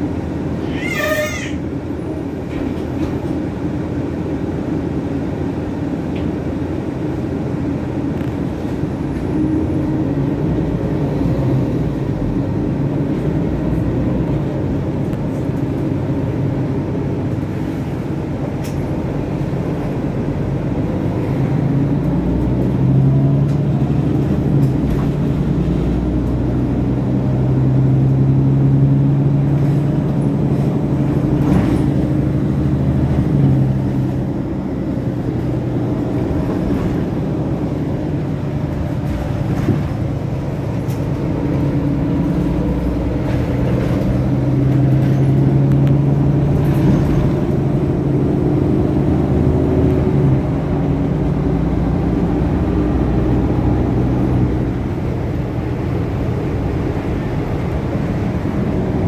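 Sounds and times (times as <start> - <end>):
bus engine hum: 0.0 - 59.0
road rumble: 0.0 - 59.0.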